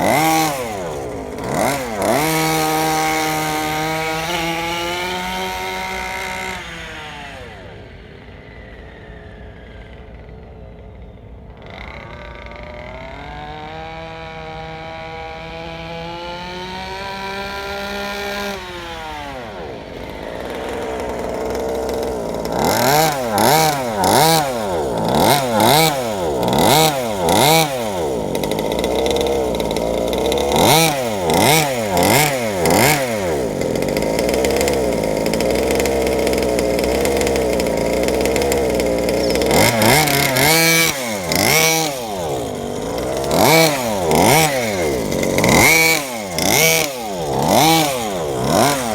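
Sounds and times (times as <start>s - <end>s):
two-stroke engine revving: 0.0s - 48.9s.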